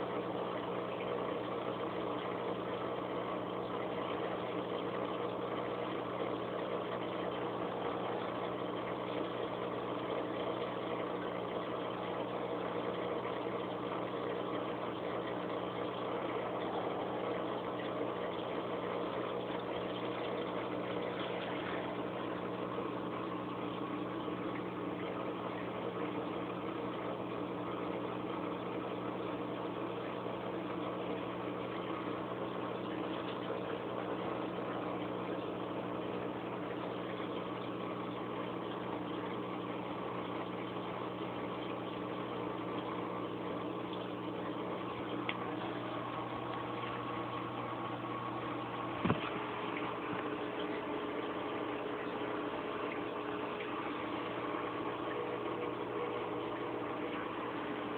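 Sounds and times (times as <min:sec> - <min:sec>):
aquarium pump humming: 0:00.0 - 0:57.9.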